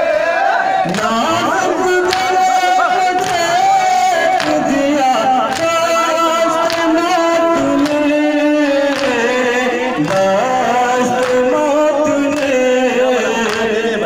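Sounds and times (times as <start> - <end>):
music with singing: 0.4 - 14.0.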